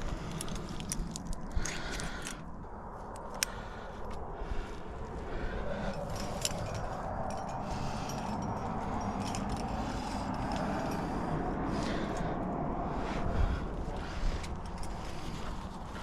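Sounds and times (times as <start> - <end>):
climbing gear clinking: 0.0 - 16.0
steady rushing noise: 0.0 - 16.0.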